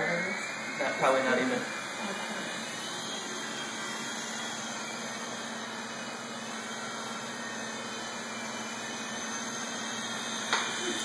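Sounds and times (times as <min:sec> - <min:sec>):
toy helicopter rotors whirring: 0:00.0 - 0:11.0.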